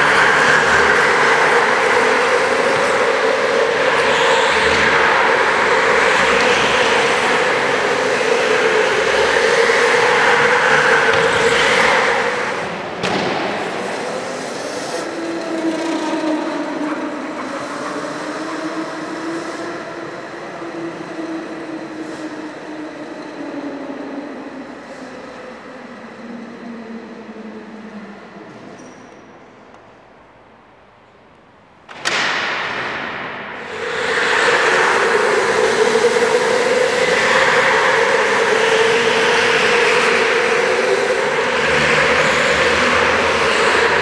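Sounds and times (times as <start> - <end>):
go-kart engines running: 0.0 - 29.5, 31.9 - 44.0.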